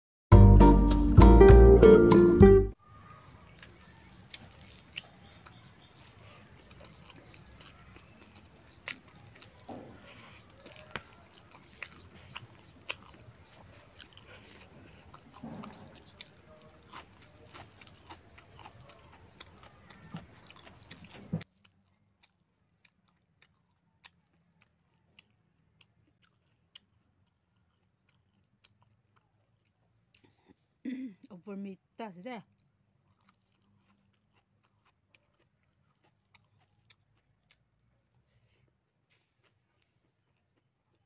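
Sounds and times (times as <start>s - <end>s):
person chewing with open mouth: 3.3s - 30.7s, 32.5s - 41.0s.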